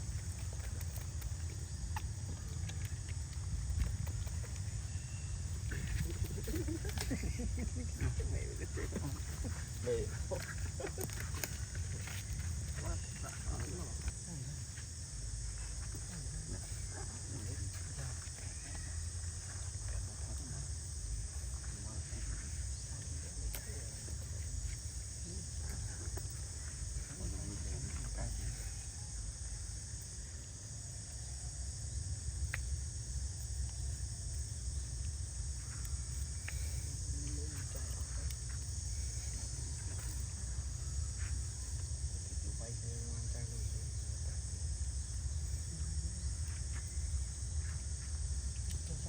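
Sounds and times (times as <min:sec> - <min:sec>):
insects chirping chorus: 0:00.0 - 0:49.0.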